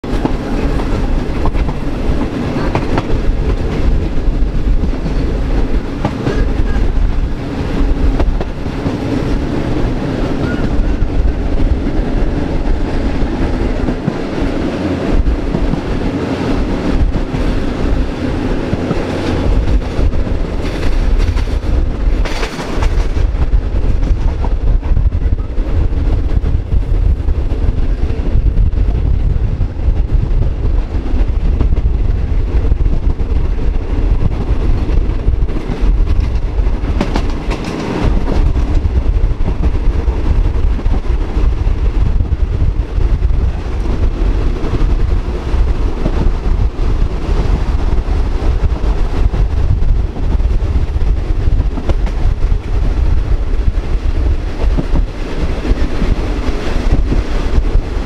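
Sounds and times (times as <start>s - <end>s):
wheels clicking over rail joints: 0.0s - 27.2s, 32.6s - 58.0s
train wheels rumbling on rails: 0.0s - 58.0s.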